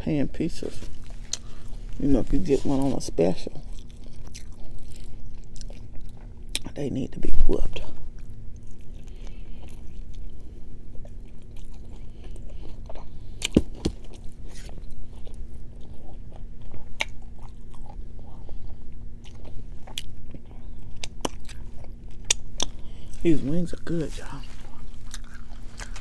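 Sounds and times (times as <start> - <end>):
person chewing food: 0.8 - 6.8, 7.9 - 26.0.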